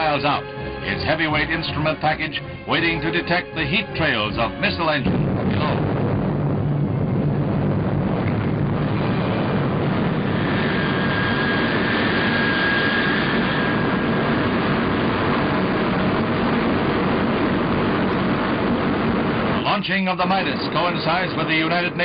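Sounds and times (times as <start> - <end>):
rocket engines roaring: 0.0 - 22.0.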